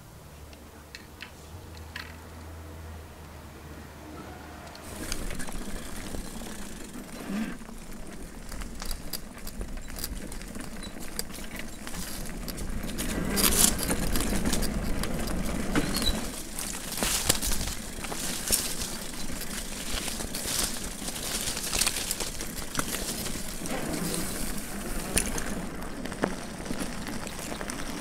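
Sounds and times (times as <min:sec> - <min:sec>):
tyre noise on dirt trail: 0:00.0 - 0:28.0
bike clicks and rattles: 0:00.4 - 0:02.6, 0:04.6 - 0:28.0.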